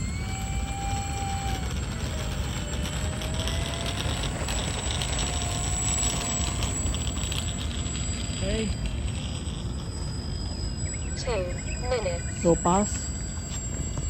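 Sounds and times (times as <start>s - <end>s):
model plane motors whining: 0.0s - 14.0s.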